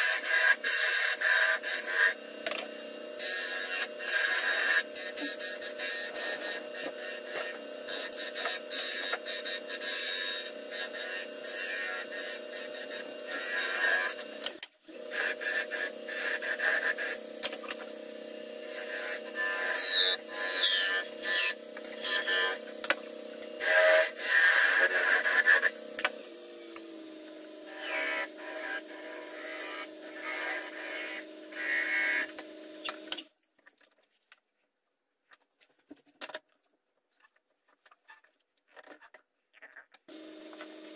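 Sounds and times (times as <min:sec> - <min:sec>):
wood lathe motor hum: 0:00.0 - 0:33.2, 0:40.1 - 0:40.9
turning tool cutting wood: 0:00.0 - 0:33.3, 0:40.1 - 0:40.9.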